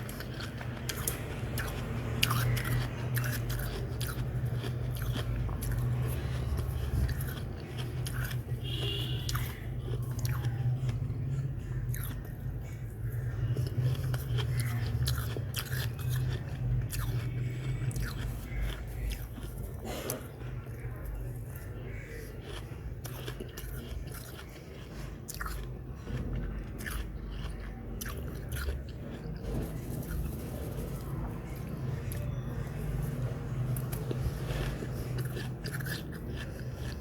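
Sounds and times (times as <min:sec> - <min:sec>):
chewing and crunching frost: 0:00.0 - 0:37.0.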